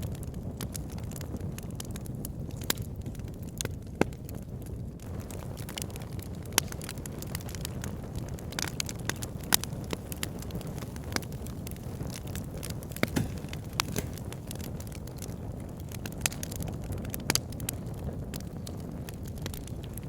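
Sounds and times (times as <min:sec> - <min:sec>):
burning logs crackling and popping: 0:00.0 - 0:20.0
low rumble of flame: 0:00.0 - 0:20.0.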